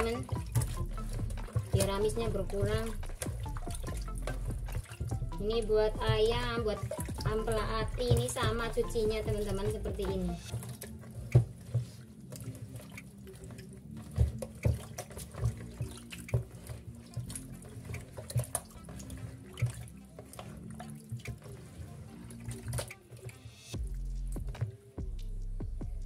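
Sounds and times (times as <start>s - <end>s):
water splashing in a bowl: 0.0s - 24.9s.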